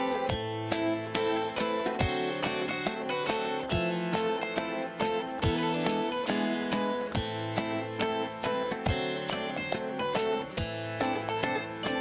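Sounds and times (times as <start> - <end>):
acoustic instrumental music: 0.0 - 12.0.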